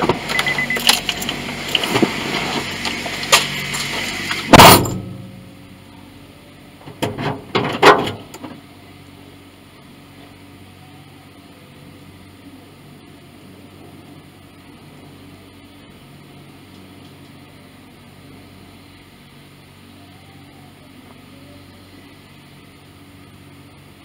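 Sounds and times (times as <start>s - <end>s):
low hum: 0.0s - 23.9s.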